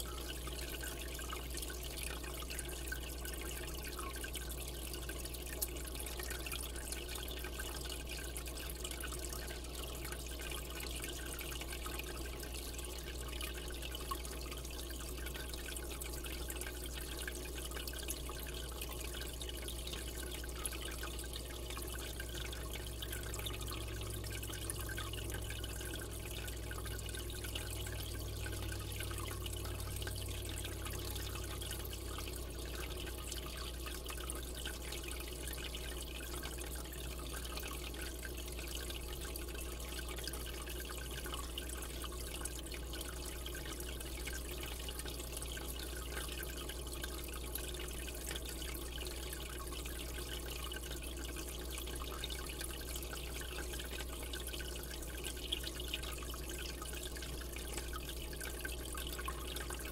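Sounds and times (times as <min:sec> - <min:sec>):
low steady hum: 0:00.0 - 0:59.9
water trickling and dripping: 0:00.0 - 0:59.9.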